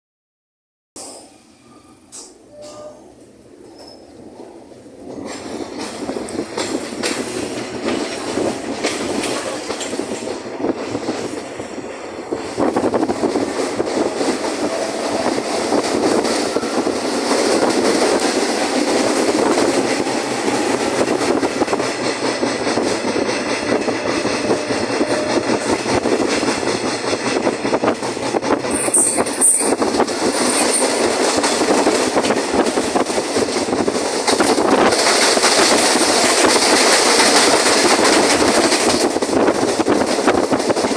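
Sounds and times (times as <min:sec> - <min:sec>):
train running on track: 0:01.0 - 0:40.9
wheels clicking over rail joints: 0:04.8 - 0:11.6, 0:12.4 - 0:40.9.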